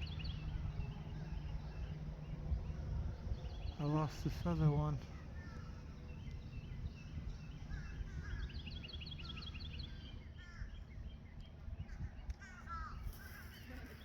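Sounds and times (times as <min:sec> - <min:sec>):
birds chirping: 0:00.0 - 0:14.0
low background rumble: 0:00.0 - 0:14.0.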